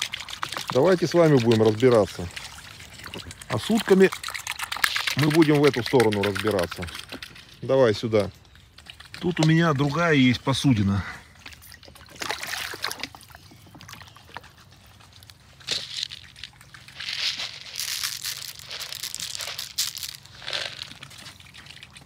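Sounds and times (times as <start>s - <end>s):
waterfowl rustling and splashing: 0.0s - 22.0s.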